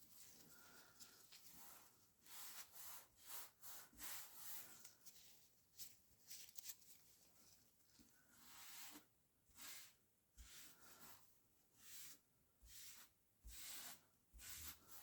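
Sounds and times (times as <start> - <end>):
faint rubbing strokes on card: 0.1 - 5.5, 8.1 - 15.0.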